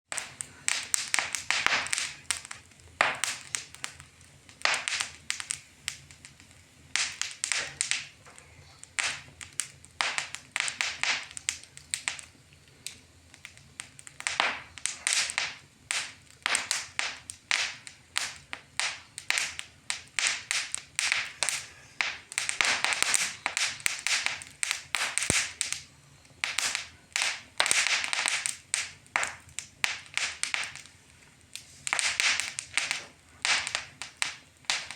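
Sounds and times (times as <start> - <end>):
wood fire crackling and popping: 0.1 - 34.9.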